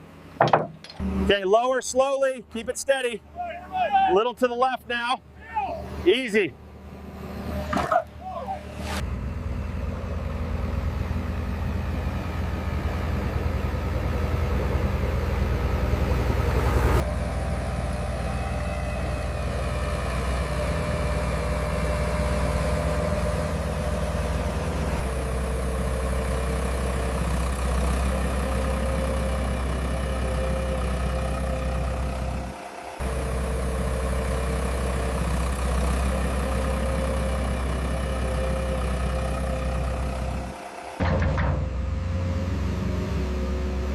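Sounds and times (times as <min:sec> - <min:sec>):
diesel engine humming: 0:00.0 - 0:43.9.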